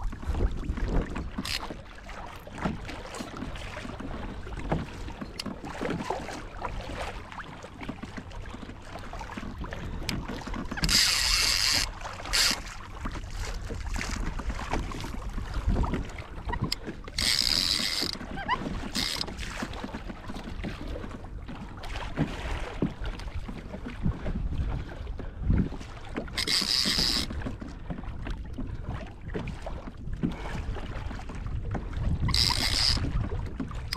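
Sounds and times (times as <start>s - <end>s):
wind and water rumble: 0.0s - 33.9s.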